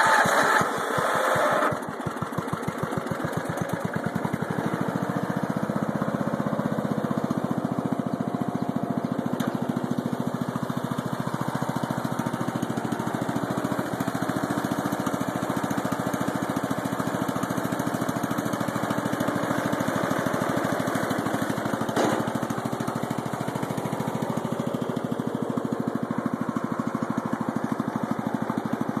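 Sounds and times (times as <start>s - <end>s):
lawnmower engine running: 0.0s - 29.0s.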